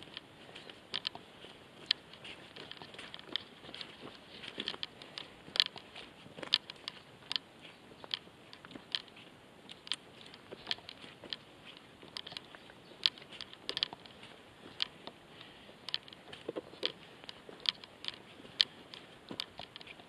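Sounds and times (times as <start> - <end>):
footsteps on gravel: 0.0 - 20.0.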